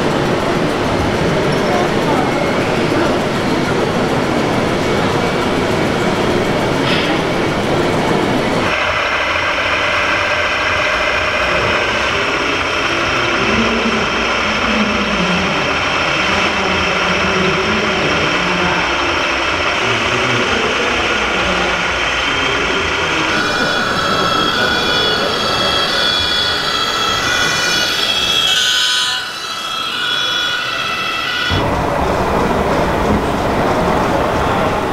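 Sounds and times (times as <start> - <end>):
rc truck motor running: 0.0 - 31.7.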